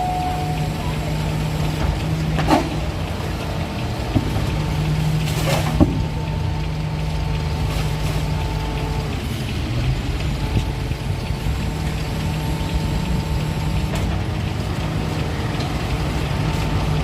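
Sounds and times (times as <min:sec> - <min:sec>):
garbage truck running: 0:00.0 - 0:17.0.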